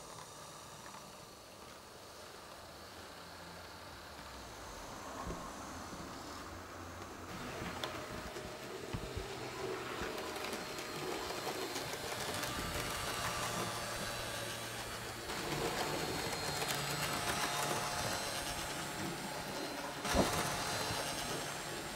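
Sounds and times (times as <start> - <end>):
model train motor whirring: 0.0 - 21.9
wheels rolling on rails: 0.0 - 21.9.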